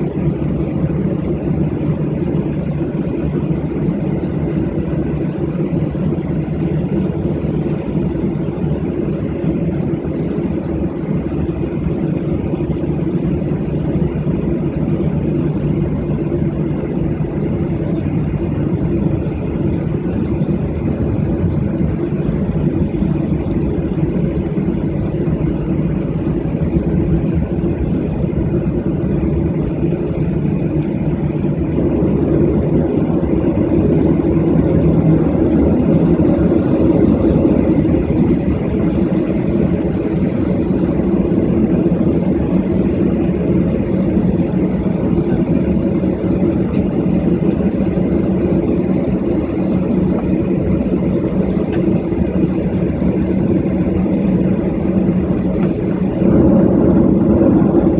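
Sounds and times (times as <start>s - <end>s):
airliner cabin drone: 0.0s - 57.9s.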